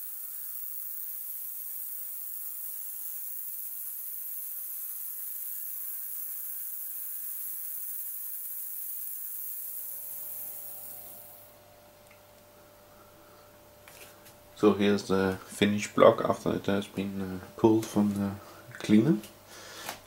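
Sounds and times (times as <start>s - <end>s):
high-pitched cavitation hiss: 0.0s - 20.0s.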